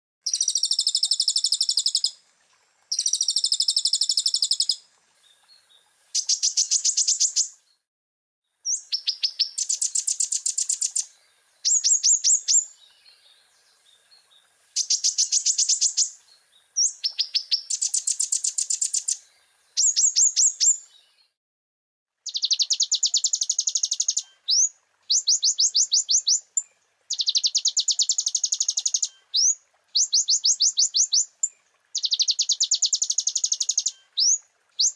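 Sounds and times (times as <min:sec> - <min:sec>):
sunbird singing trilled phrases: 0:00.2 - 0:02.2, 0:02.9 - 0:04.8, 0:06.1 - 0:07.8, 0:08.6 - 0:21.4, 0:22.2 - 0:34.9.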